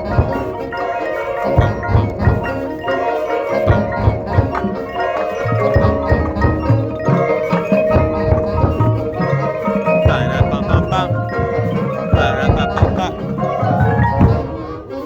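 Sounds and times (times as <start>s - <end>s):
drum hits and percussion: 0.0s - 14.6s
sustained wind chords: 0.0s - 15.0s.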